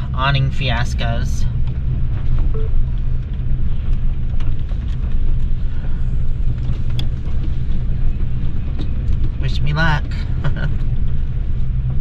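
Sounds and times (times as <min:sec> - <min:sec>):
low rumble of strong wind: 0:00.0 - 0:12.0.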